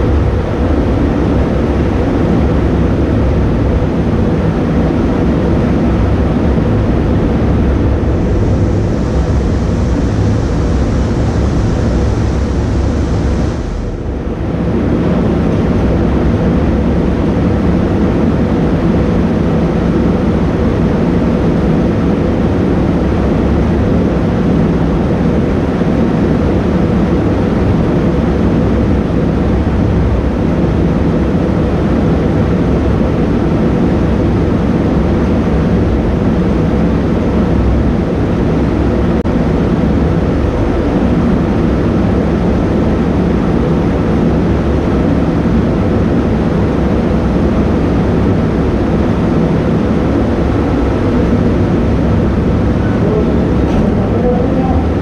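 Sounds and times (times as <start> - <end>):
spray booth air rumble: 0.0 - 55.0.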